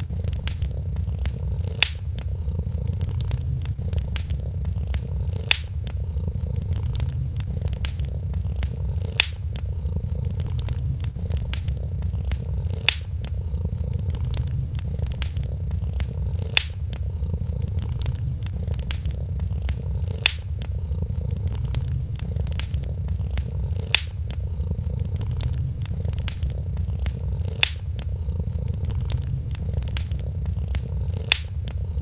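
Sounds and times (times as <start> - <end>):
cat purring: 0.0 - 32.0
fire snaps: 0.0 - 32.0
wood fire crackling: 0.0 - 32.0.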